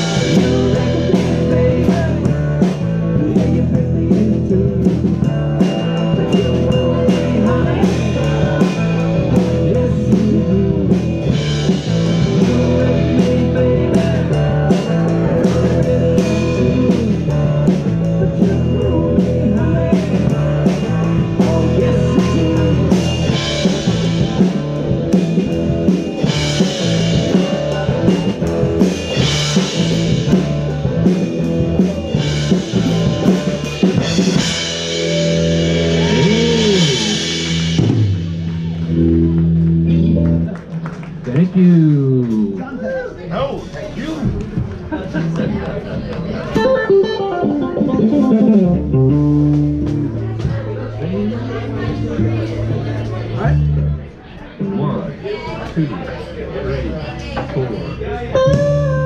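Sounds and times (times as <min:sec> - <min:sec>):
rock band playing: 0:00.0 - 0:42.6, 0:46.2 - 0:55.4, 0:57.5 - 0:59.0.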